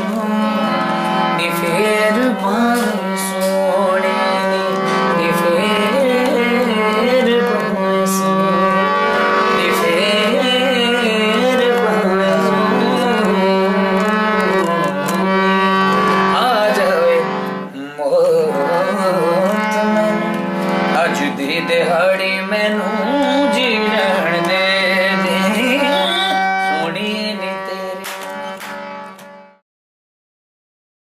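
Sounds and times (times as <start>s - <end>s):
man singing: 0.0s - 28.6s
harmonium drone: 0.0s - 29.6s.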